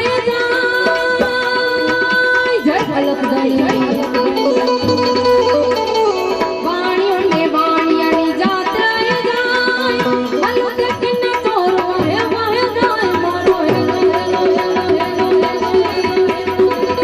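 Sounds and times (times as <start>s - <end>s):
tabla drumming: 0.0s - 17.0s
woman singing: 0.0s - 17.0s.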